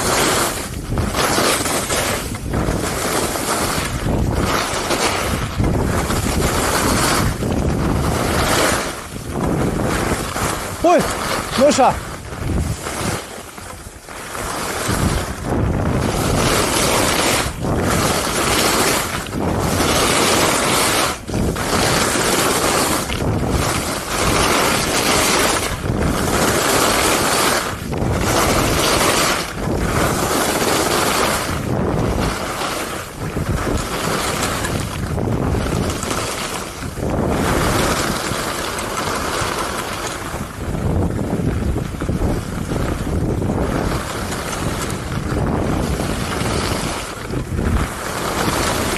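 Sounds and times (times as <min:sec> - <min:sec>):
skis scraping over snow: 0:00.0 - 0:48.9
wind on microphone: 0:00.0 - 0:48.9.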